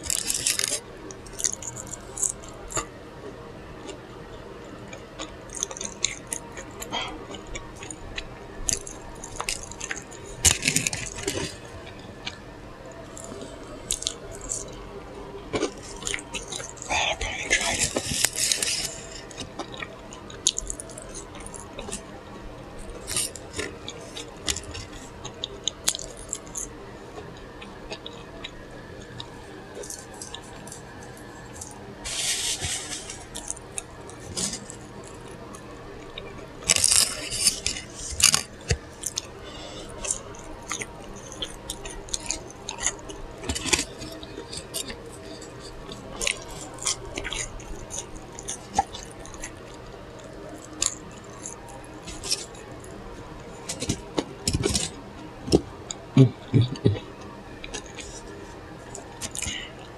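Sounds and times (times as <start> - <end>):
chewing and lip-smacking: 0.0 - 2.9, 3.8 - 59.9.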